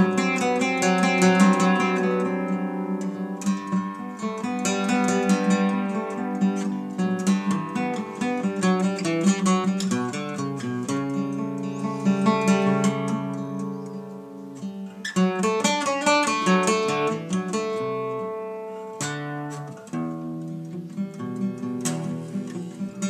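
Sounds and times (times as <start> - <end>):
strummed chords: 0.0 - 23.0.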